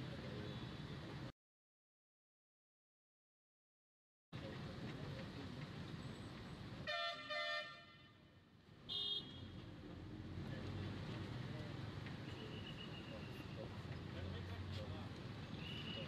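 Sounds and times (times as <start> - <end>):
road traffic rumble: 0.0 - 1.3, 4.4 - 16.0.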